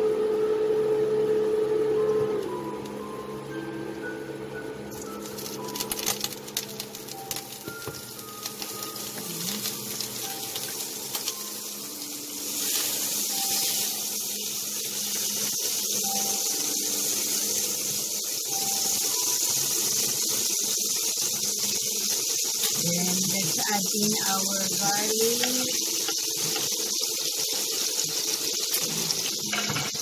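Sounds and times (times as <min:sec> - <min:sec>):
butter sizzling in a pan: 0:04.9 - 0:30.0.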